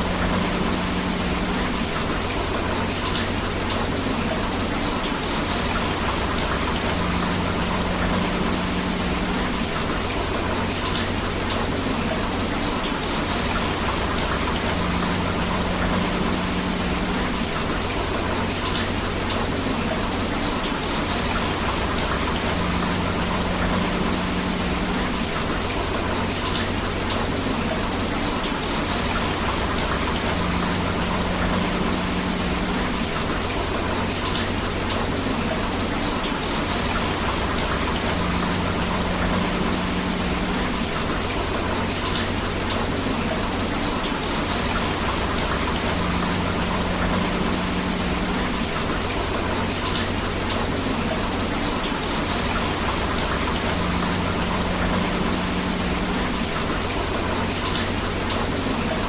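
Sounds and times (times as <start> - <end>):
rushing river water: 0.0 - 59.0
steady rain: 0.0 - 59.0.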